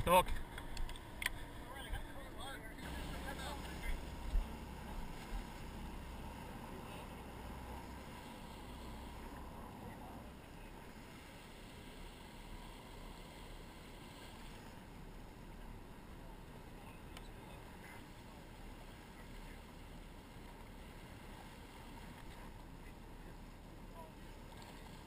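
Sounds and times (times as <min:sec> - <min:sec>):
boat engine drone: 0:00.0 - 0:25.0
water washing along hull: 0:00.0 - 0:25.0.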